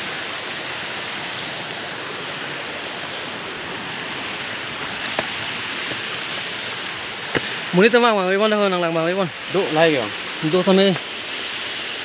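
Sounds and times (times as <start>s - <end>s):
water splashing over rocks: 0.0s - 12.0s.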